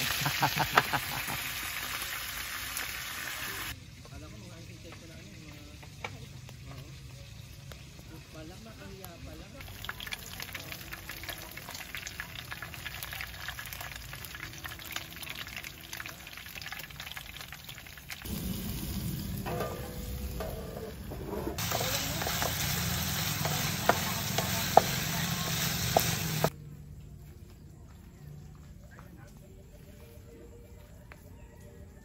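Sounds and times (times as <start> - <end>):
oil sizzling in a frying pan: 0.0 - 26.6.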